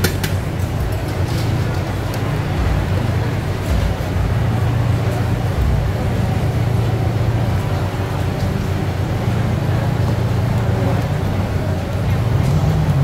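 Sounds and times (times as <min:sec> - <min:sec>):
low mechanical hum: 0:00.0 - 0:13.0
market noise: 0:00.0 - 0:13.0.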